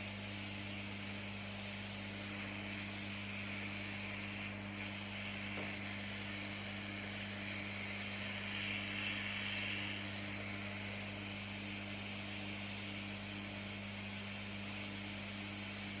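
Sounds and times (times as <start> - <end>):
hot air blower hissing: 0.0 - 16.0
low electrical hum: 0.0 - 16.0.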